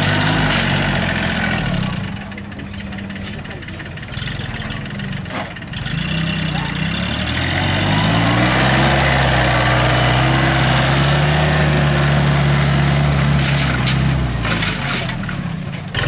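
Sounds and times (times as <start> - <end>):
tractor engine at full throttle: 0.0 - 16.0.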